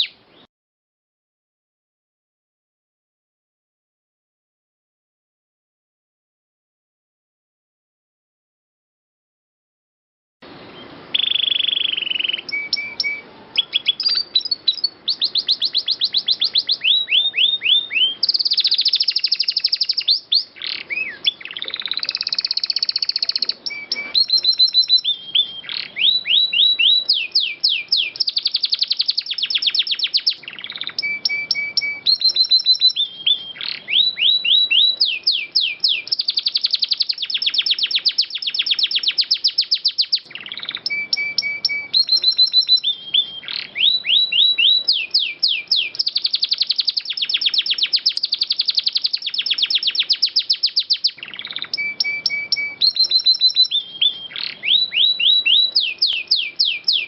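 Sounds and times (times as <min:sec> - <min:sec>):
canary singing trills: 0:00.0 - 0:00.5, 0:10.5 - 0:57.0.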